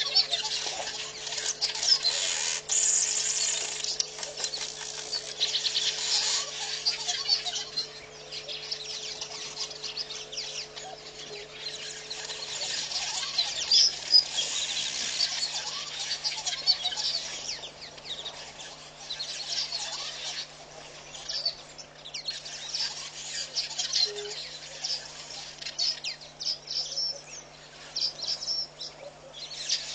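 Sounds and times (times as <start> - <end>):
birds chirping and twittering: 0.0 - 29.9
faint steady hum: 0.0 - 29.9.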